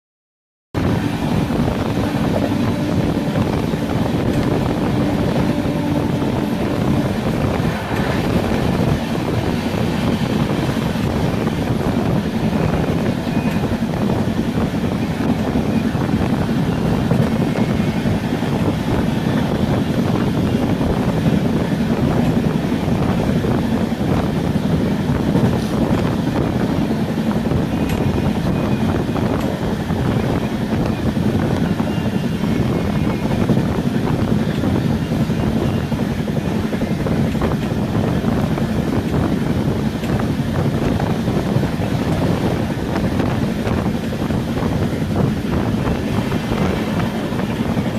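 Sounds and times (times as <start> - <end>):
train wheels rumbling on track: 0.8 - 47.9
wind noise: 0.8 - 47.9.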